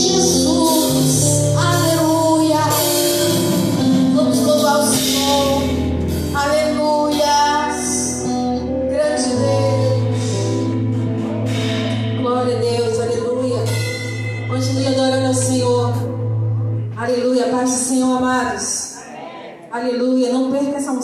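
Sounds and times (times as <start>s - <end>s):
steady bass: 0.0s - 17.2s
held keyboard chords: 0.0s - 17.8s.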